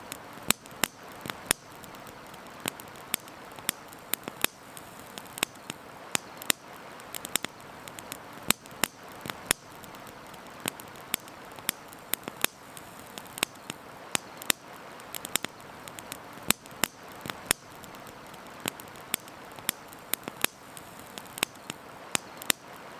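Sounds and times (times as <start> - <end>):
campfire crackling and popping: 0.0 - 22.9
steady background hiss: 0.0 - 22.9.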